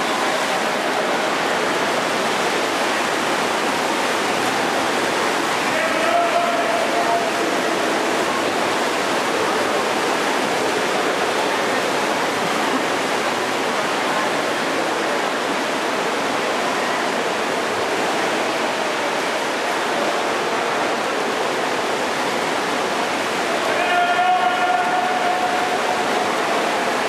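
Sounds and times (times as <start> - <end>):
swimmers splashing water: 0.0 - 27.0.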